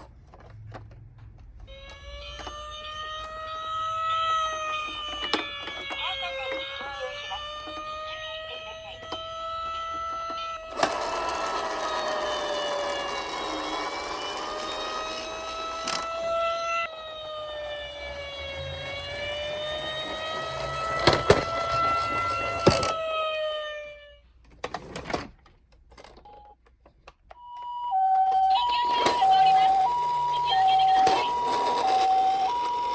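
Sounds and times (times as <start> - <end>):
toy electronic siren wailing: 1.6 - 24.2, 27.4 - 32.9
two-tone hi-lo siren: 1.7 - 24.2, 27.4 - 32.9.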